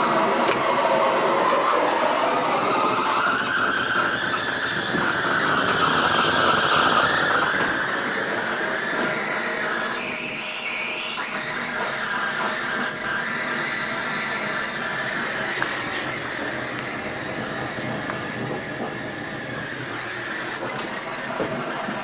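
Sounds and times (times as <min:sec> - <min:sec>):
wavering whistle-like tone: 0:00.0 - 0:22.0.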